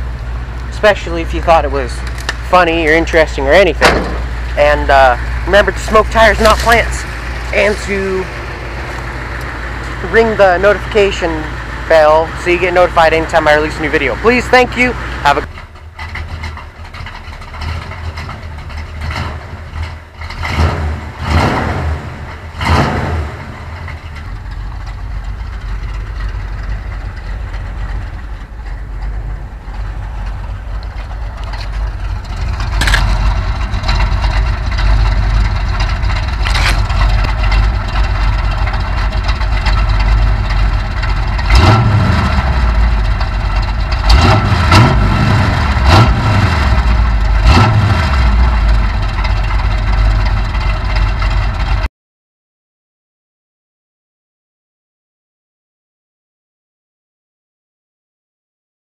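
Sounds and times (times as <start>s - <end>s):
pickup engine idling: 0.0s - 51.9s
engine revving: 0.7s - 51.9s.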